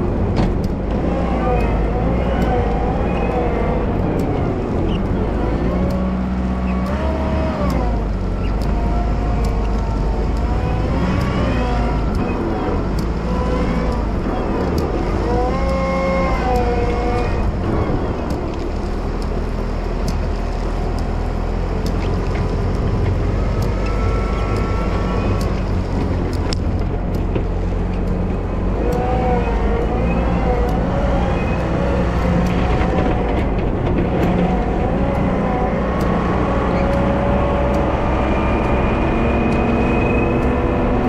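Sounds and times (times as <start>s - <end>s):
diesel engine rumbling: 0.0s - 41.0s
rising and falling whine: 0.0s - 41.0s.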